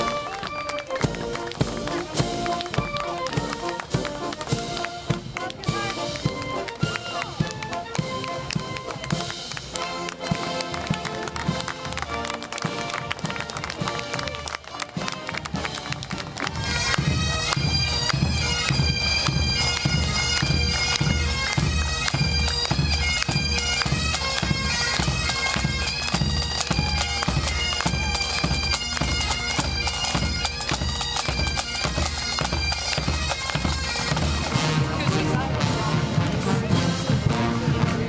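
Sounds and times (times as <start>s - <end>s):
bagpipes playing a melody: 0.0s - 38.0s
drums beating a rhythm: 0.0s - 38.0s.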